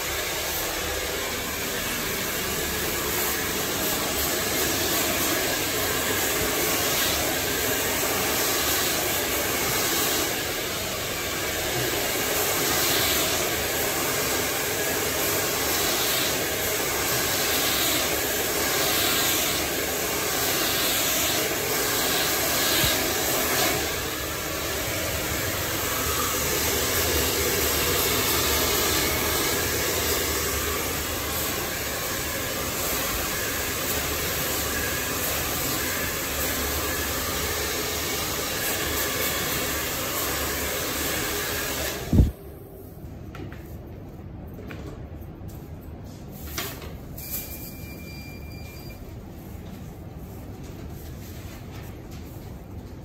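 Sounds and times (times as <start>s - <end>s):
hair dryer blowing: 0.0s - 42.4s.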